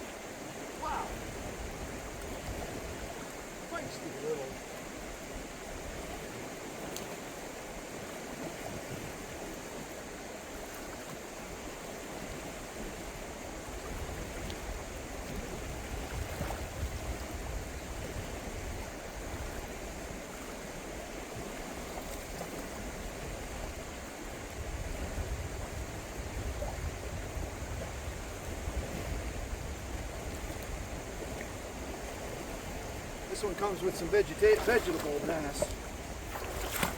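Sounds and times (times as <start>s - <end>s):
river water rushing: 0.0s - 36.9s.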